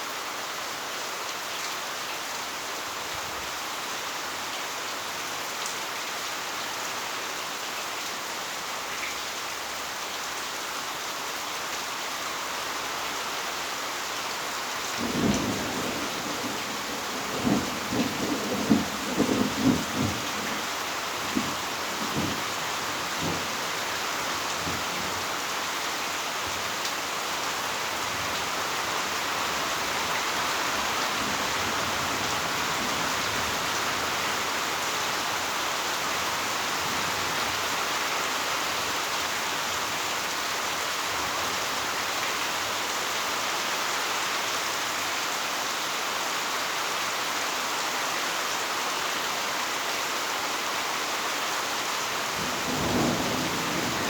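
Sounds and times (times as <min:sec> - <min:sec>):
heavy rain pouring: 0:00.1 - 0:54.0.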